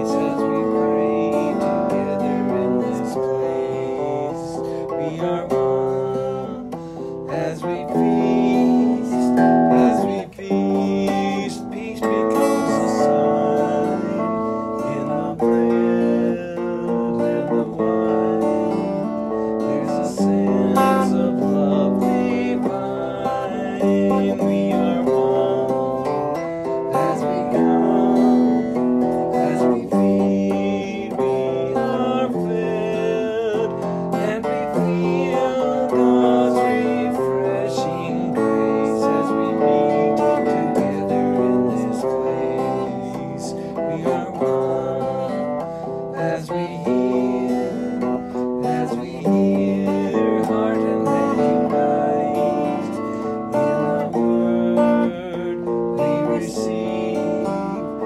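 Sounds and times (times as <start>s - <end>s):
hymn singing: 0.0s - 58.0s
instrumental accompaniment: 0.0s - 58.0s.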